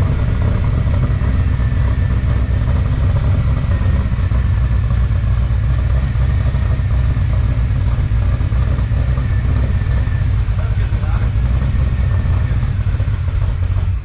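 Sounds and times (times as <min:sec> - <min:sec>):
engine deep rumble: 0:00.0 - 0:14.0.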